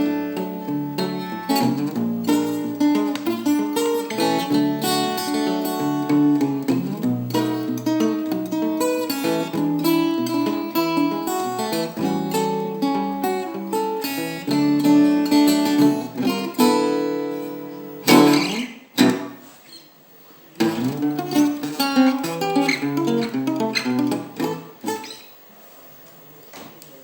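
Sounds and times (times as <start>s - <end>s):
strummed guitar chord: 0.0s - 19.4s, 20.6s - 25.1s
fingerstyle acoustic guitar: 0.0s - 25.4s.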